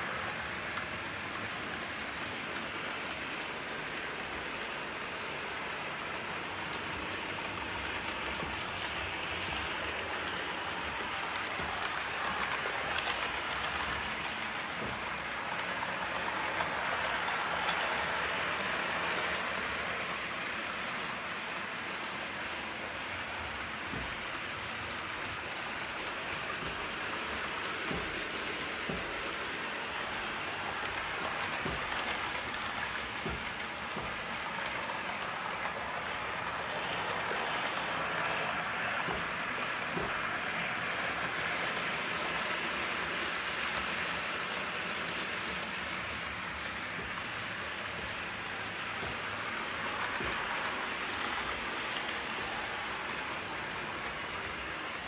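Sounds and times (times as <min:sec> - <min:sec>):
model train wheels rolling: 0:00.0 - 0:55.0.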